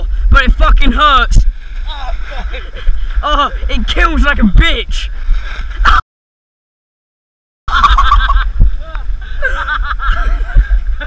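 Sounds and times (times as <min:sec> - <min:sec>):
wind buffeting microphone: 0:00.0 - 0:06.0, 0:07.8 - 0:11.0.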